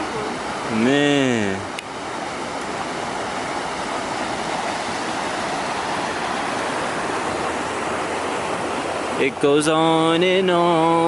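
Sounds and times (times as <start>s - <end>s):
water rushing through tunnel: 0.0s - 11.0s.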